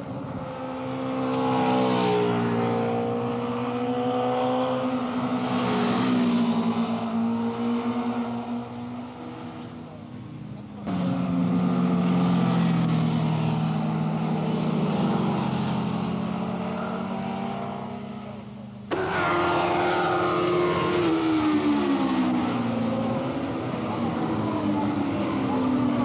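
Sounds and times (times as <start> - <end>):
motorcycle engines at high revs: 0.0 - 26.0
motorcycle passing by: 0.6 - 8.6, 11.3 - 26.0.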